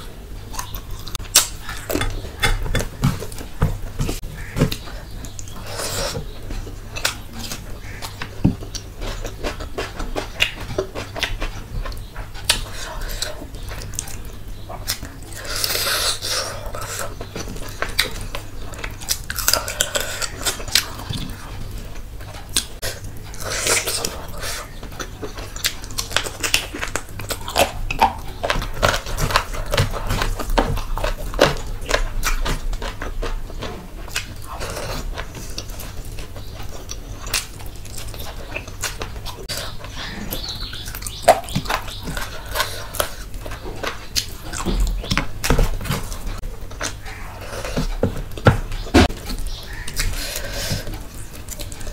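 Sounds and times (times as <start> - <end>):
wet chewing and lip smacking: 0.4 - 51.9.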